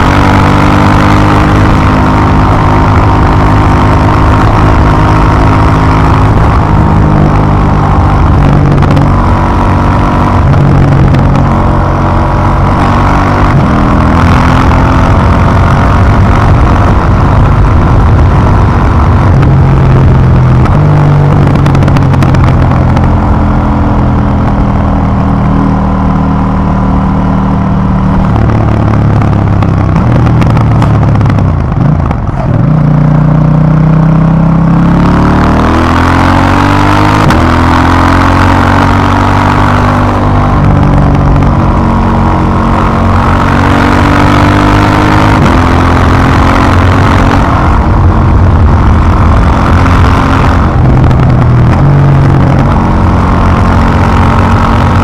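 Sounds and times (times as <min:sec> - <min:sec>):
motorcycle engine: 0:00.0 - 0:55.0.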